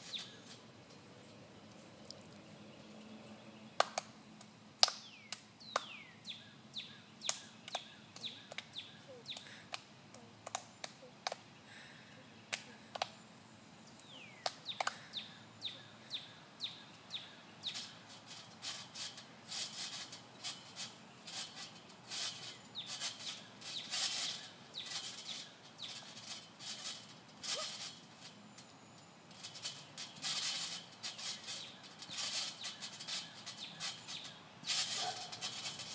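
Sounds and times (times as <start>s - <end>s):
trampoline springs rattling: 0.0s - 1.1s, 7.2s - 35.9s
birds chirping: 0.0s - 3.8s, 5.0s - 35.9s.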